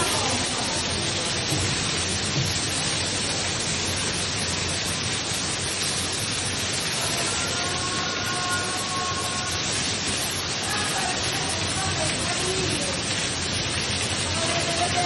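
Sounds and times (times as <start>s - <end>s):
water pouring through ceiling: 0.0s - 15.0s.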